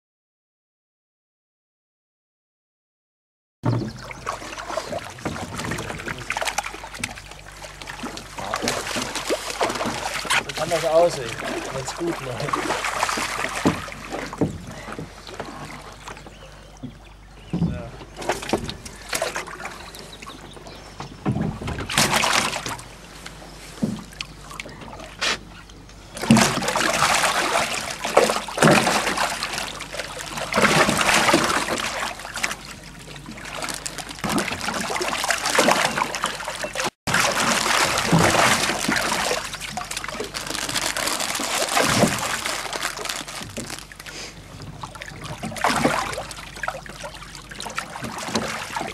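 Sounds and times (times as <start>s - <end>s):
fish splashing in water: 3.8s - 17.5s, 18.1s - 48.9s.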